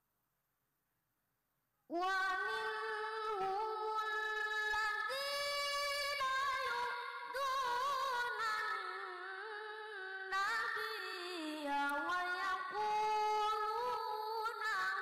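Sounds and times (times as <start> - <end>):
boy reciting melodically: 1.9 - 15.0.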